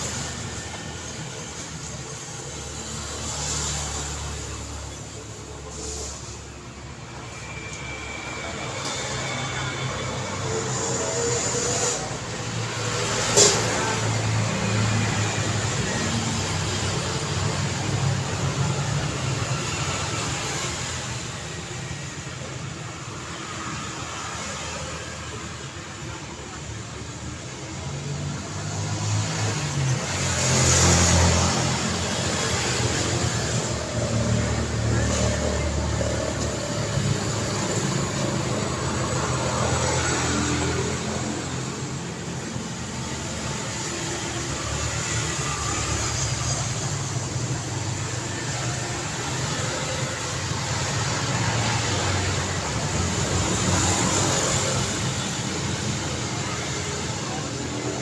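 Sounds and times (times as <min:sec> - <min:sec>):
cars passing on busy road: 0:00.0 - 0:58.0.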